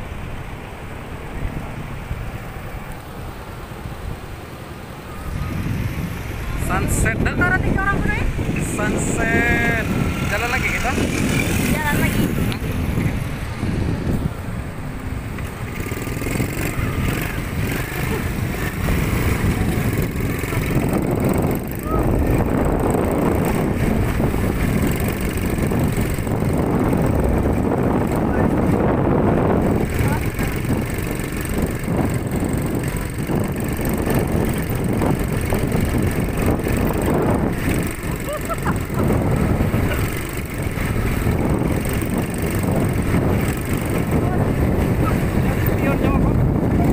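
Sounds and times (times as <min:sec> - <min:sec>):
wind buffeting microphone: 0:01.2 - 0:46.9
quad bike engine running: 0:05.2 - 0:46.9.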